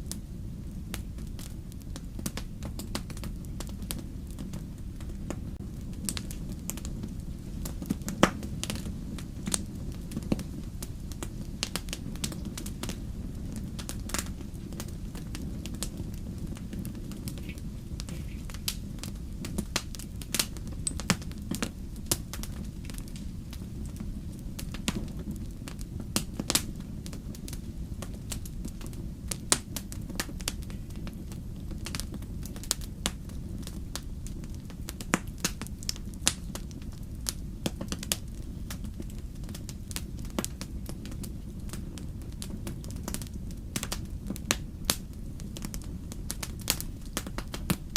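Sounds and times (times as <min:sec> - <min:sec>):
fire rumbling: 0:00.0 - 0:47.9
logs crackling and popping: 0:00.0 - 0:47.9.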